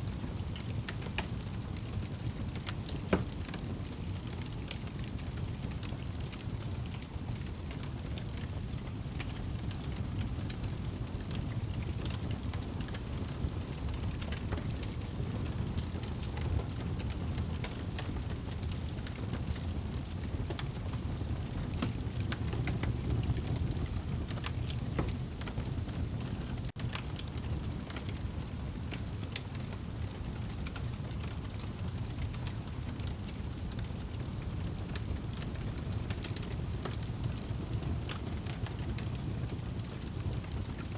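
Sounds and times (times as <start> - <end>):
fire crackles: 0.0 - 40.9.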